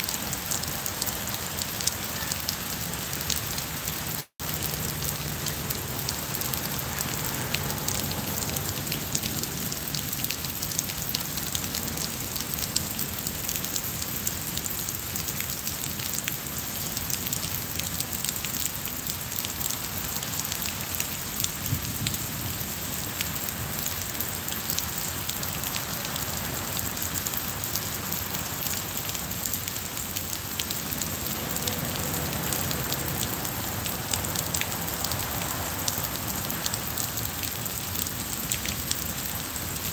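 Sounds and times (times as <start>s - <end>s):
rain on wet paving and plants: 0.0s - 39.9s
raindrops ticking: 0.0s - 39.9s.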